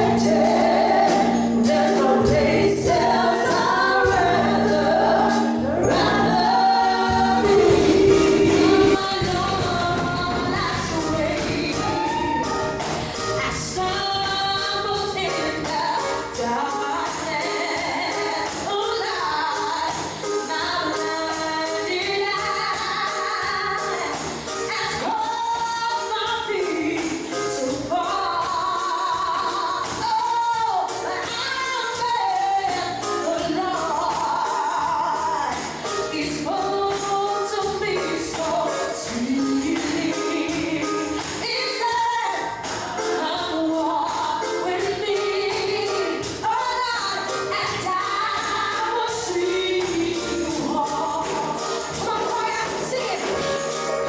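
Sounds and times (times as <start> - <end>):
congregation singing gospel: 0.0 - 54.0
music: 0.0 - 54.0
tambourine beat: 0.0 - 54.0.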